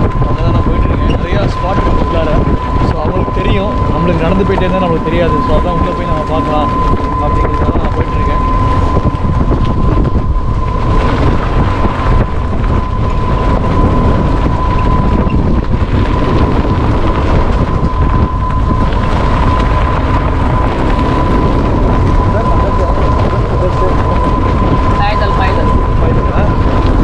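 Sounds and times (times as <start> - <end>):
rumble of cart ride: 0.0 - 27.0
thin high whine: 0.0 - 27.0
wind buffeting microphone: 0.0 - 27.0.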